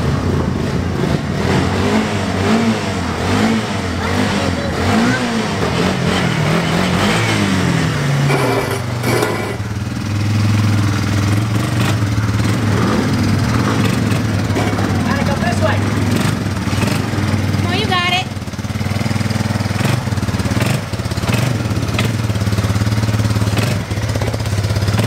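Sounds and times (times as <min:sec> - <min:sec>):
quad bike engines revving: 0:00.0 - 0:25.0.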